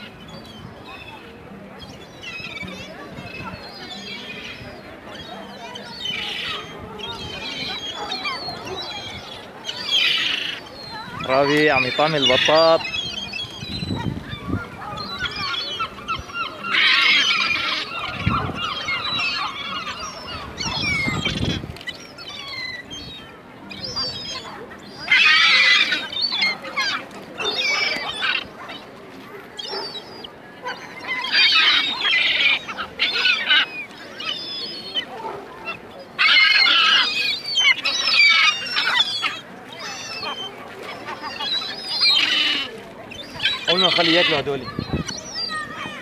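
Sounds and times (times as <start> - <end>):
gulls calling: 0.0 - 46.0.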